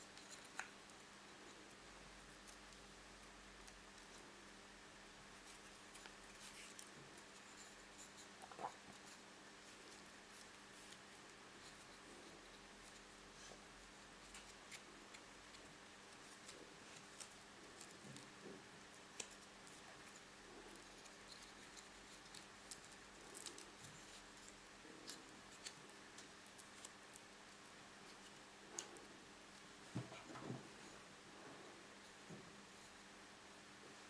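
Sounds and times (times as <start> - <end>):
yarn rustling around sticks: 0.0 - 34.0.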